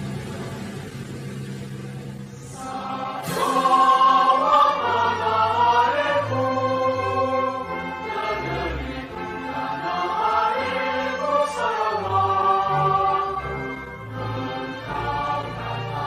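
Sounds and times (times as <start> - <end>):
choir singing with accompaniment: 1.7 - 16.0.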